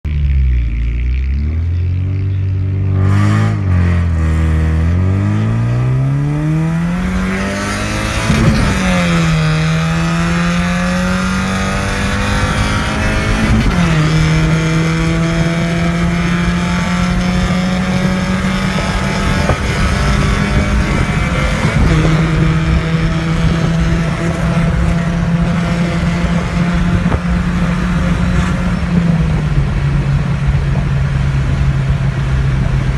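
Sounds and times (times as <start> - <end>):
car engine accelerating hard: 0.1 - 32.9.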